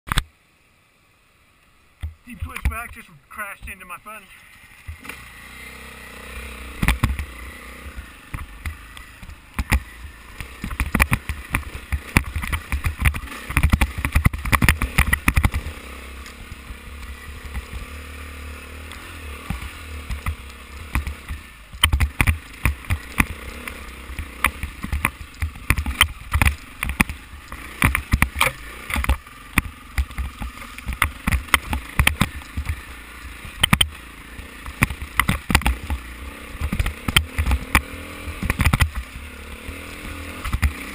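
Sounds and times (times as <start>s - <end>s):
dirt bike engine at low revs: 0.1s - 40.9s
knocks and rattles over rough ground: 2.0s - 40.9s.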